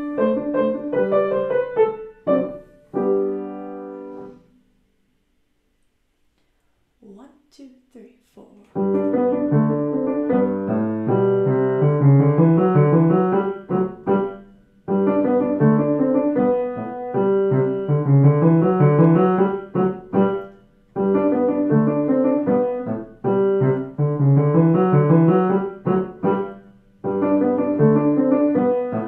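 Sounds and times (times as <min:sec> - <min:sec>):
grand piano playing: 0:00.0 - 0:04.4, 0:08.8 - 0:29.0.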